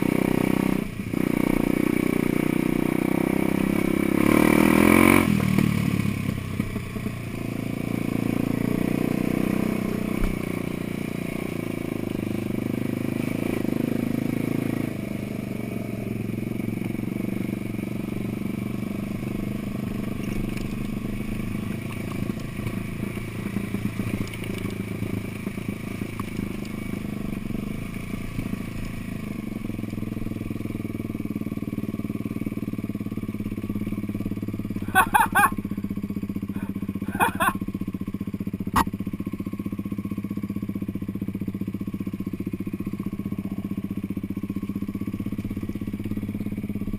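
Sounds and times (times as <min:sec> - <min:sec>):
off-road vehicle engine running: 0:00.0 - 0:46.9.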